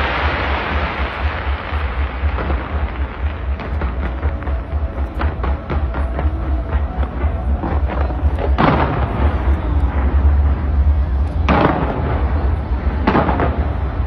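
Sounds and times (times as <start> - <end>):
fireworks crackling: 0.0 - 14.0
loud firework bangs: 0.0 - 14.0
low rumble: 0.0 - 14.0.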